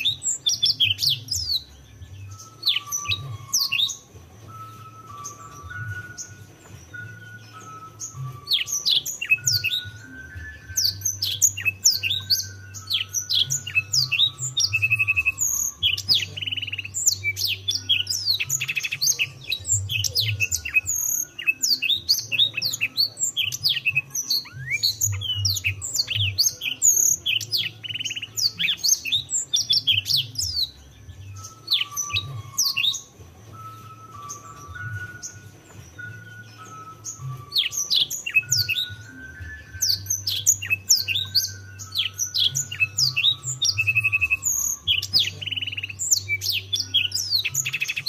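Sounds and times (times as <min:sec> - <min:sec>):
canary singing: 0:00.0 - 0:48.0.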